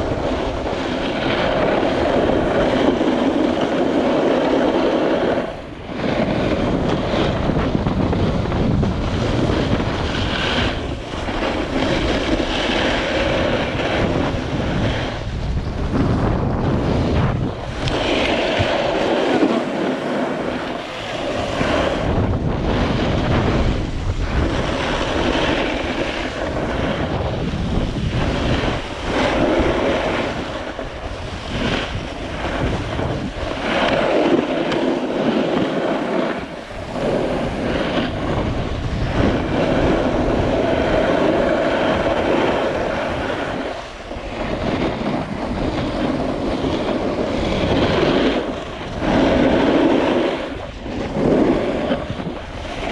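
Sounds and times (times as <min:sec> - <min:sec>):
skis scraping over snow: 0:00.0 - 0:52.9
wind rushing over microphone: 0:00.0 - 0:52.9.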